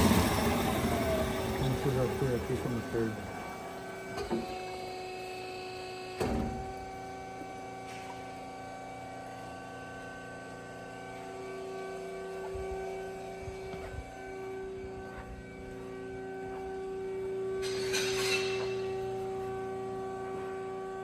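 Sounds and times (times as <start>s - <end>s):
electric machine hum: 0.0s - 21.0s.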